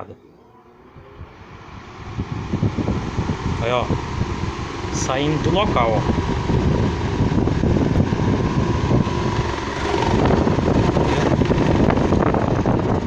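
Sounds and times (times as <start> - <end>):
electric fan air rush: 0.0 - 13.0
fan shaking rattle: 1.4 - 13.0.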